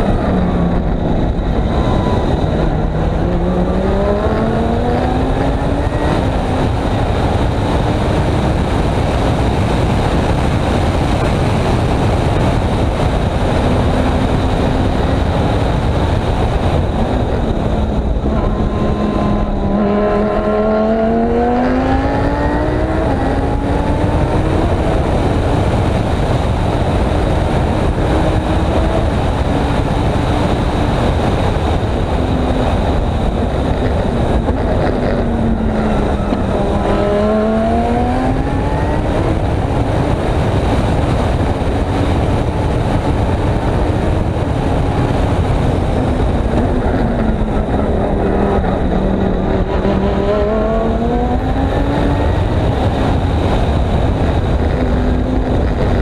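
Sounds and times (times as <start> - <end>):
race car engine running hard: 0.0 - 56.0
wind and road noise: 0.0 - 56.0.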